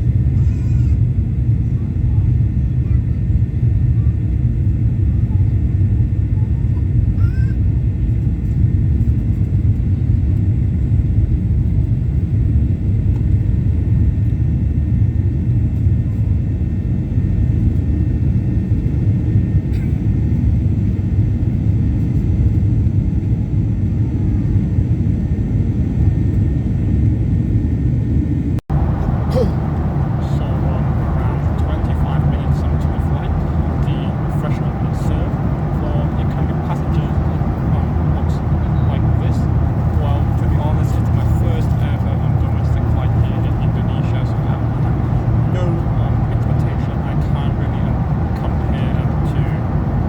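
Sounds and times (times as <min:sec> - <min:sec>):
airplane cabin rumble: 0:00.0 - 0:50.0.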